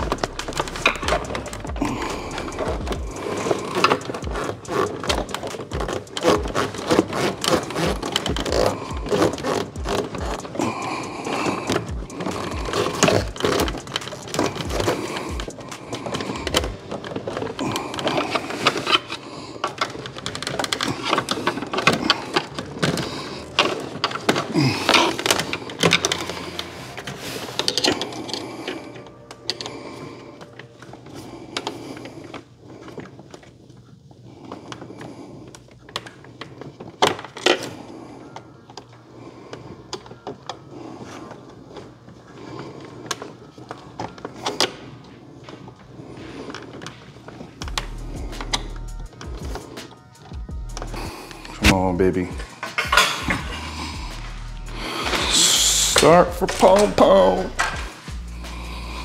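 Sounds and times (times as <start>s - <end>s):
hand tools clicking and knocking: 0.0s - 33.7s, 38.6s - 59.0s.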